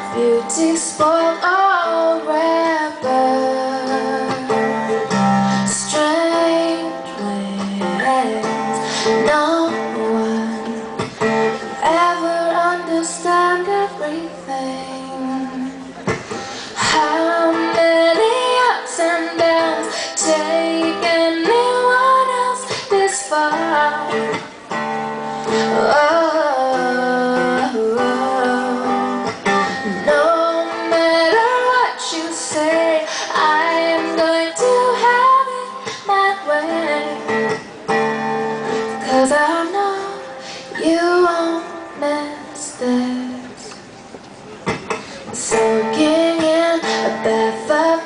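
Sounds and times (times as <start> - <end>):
woman singing: 0.0 - 15.9, 16.7 - 37.6, 38.8 - 43.7, 45.3 - 48.0.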